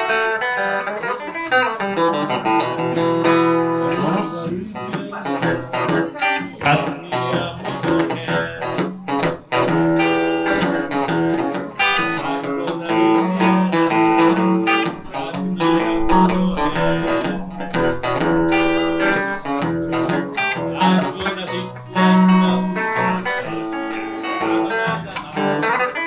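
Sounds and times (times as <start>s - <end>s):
electric guitar blues solo: 0.0s - 26.0s.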